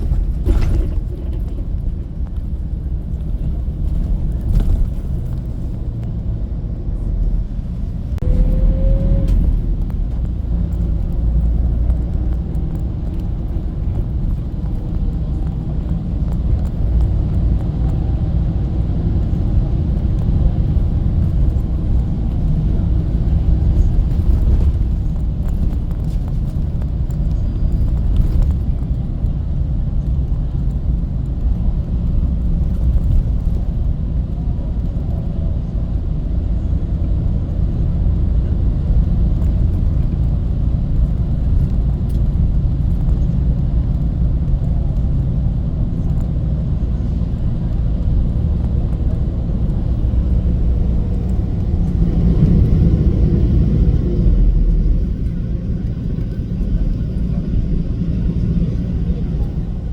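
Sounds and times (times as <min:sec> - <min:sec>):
bus engine rumble: 0:00.0 - 0:59.9
road noise: 0:00.0 - 0:59.9.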